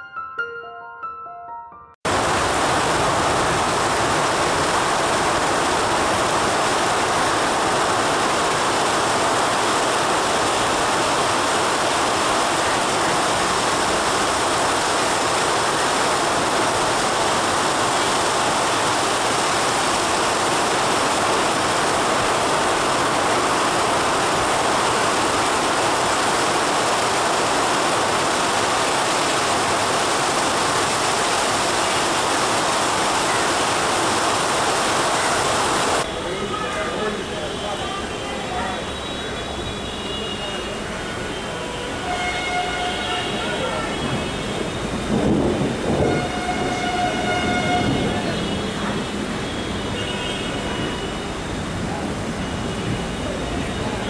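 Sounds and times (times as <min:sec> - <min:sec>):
heavy rain pouring: 0:02.1 - 0:54.0.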